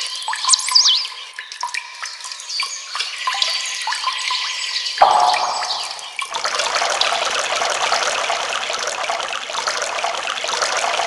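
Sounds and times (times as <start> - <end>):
water trickling and bubbling: 0.0 - 11.0.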